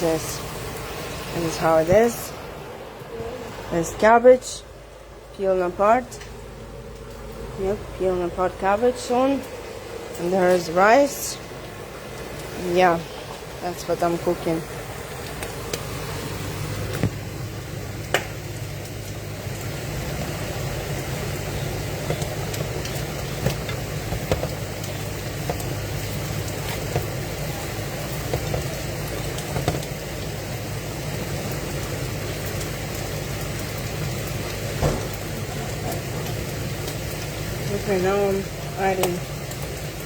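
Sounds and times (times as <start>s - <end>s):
food sizzling in a pan: 0.0s - 2.6s, 9.0s - 40.0s.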